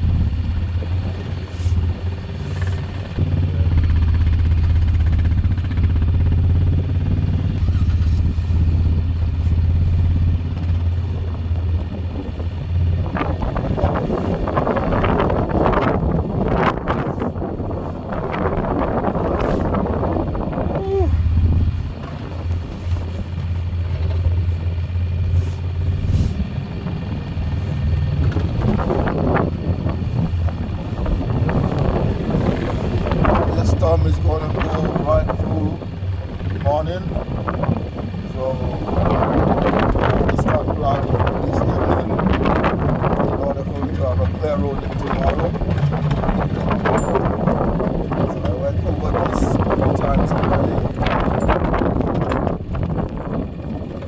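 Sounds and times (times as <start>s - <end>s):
atv engine droning: 0.0s - 54.0s
plow pushing snow: 0.0s - 54.0s
wind noise on microphone: 0.0s - 54.0s.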